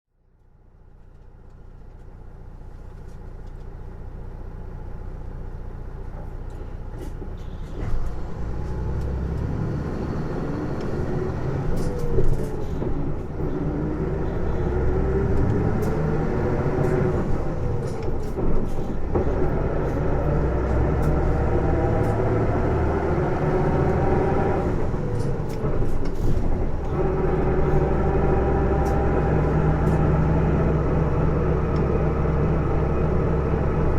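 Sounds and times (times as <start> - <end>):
bus diesel engine running: 0.1 - 33.9
whining drivetrain noise: 6.1 - 33.9.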